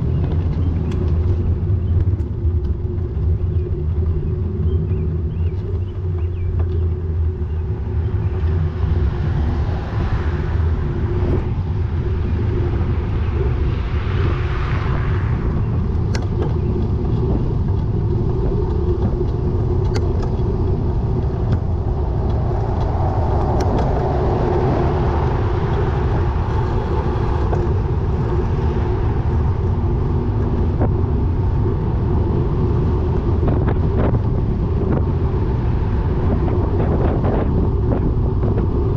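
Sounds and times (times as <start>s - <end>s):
cars passing: 0.0s - 38.9s
wind and road noise: 0.0s - 38.9s.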